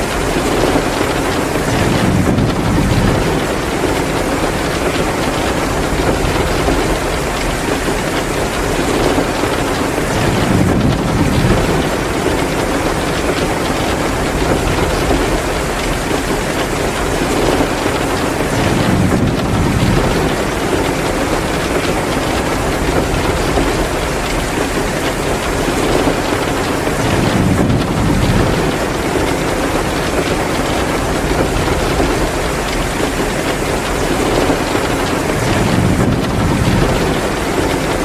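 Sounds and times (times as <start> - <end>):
heavy rain pouring: 0.0 - 38.0
wood fire crackling: 0.0 - 38.0.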